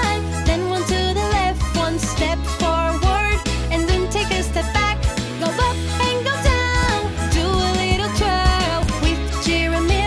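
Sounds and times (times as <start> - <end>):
upbeat children's song: 0.0 - 10.0.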